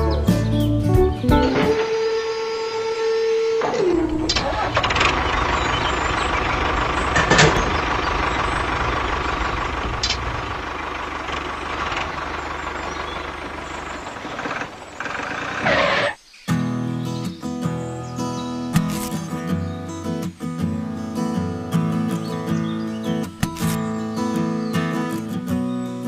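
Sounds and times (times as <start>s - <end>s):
tractor engine rumbling: 0.0s - 16.2s, 20.7s - 25.4s.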